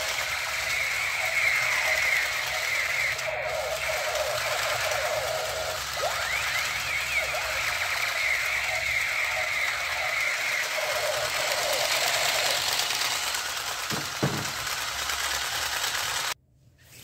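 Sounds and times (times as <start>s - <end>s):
toy gun electronic firing sound: 0.0s - 16.4s.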